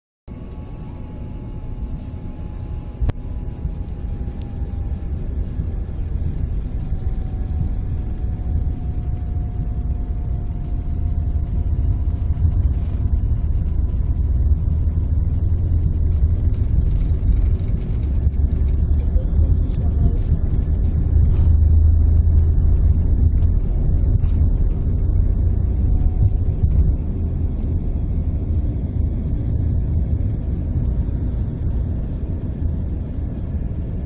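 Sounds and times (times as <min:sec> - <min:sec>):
jet cabin rumble: 0:00.3 - 0:34.0.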